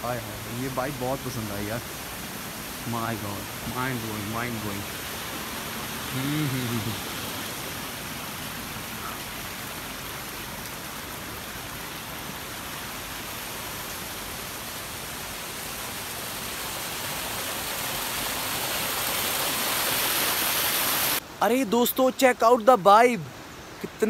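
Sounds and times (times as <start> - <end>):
stream water rushing over cascade: 0.0 - 24.0.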